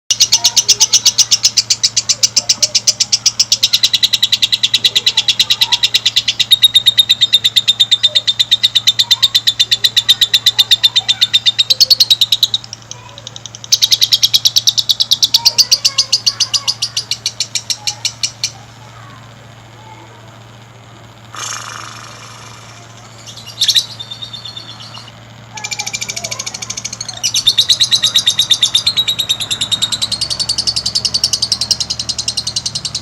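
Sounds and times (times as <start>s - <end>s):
lovebird trilling song: 0.1s - 19.0s, 21.2s - 33.0s.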